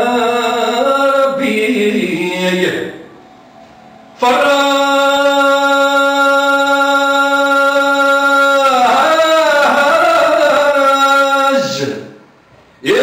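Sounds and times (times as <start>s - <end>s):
man singing unaccompanied: 0.0s - 3.1s, 4.1s - 12.2s.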